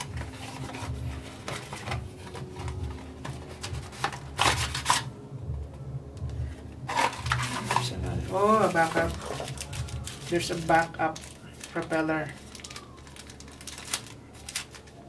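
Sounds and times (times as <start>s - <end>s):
paper and cardboard rustling: 0.0s - 5.1s, 6.9s - 15.0s.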